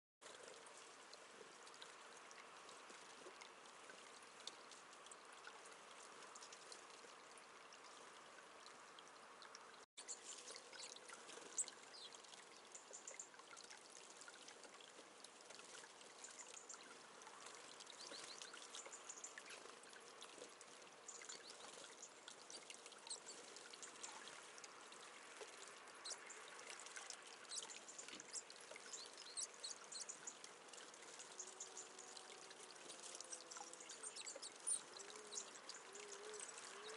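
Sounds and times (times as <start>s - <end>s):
small high ticks and splashes: 0.2s - 36.9s
water trickling into bird bath: 0.2s - 36.9s.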